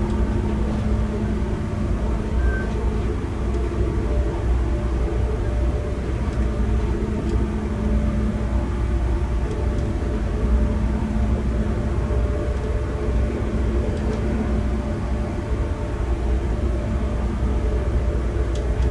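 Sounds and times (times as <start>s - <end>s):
faint steady hum: 0.0s - 18.9s
train rumbling inside carriage: 0.0s - 18.9s.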